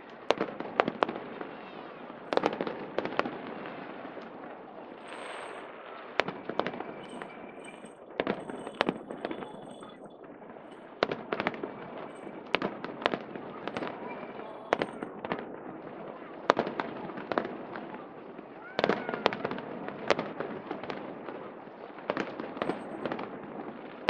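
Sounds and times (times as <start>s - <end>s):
crowd murmur: 0.0s - 22.0s
fireworks bangs and crackles: 0.0s - 24.0s.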